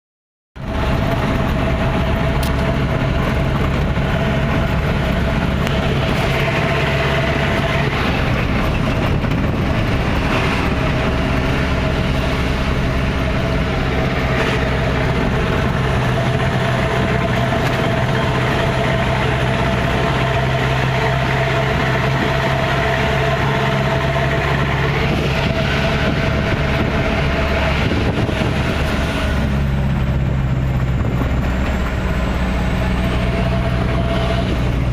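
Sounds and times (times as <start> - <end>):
truck engine running: 0.6 - 34.9.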